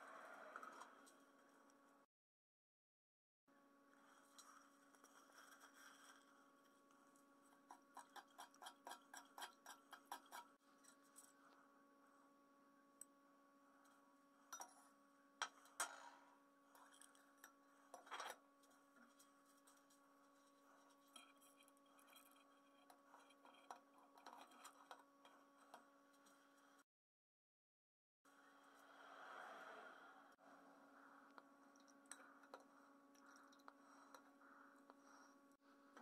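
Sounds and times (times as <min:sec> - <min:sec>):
faint steady hum: 0:00.0 - 0:02.1, 0:03.5 - 0:26.8, 0:28.3 - 0:36.0.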